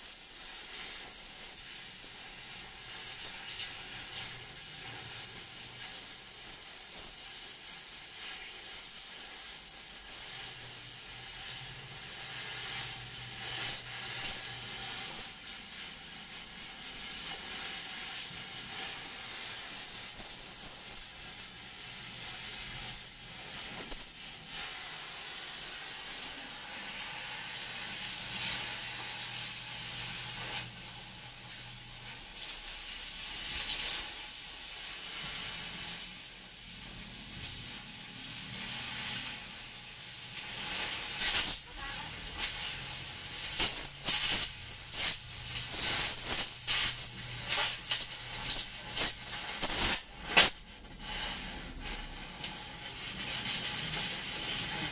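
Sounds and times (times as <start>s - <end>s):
cutting torch hissing: 0.0s - 54.9s.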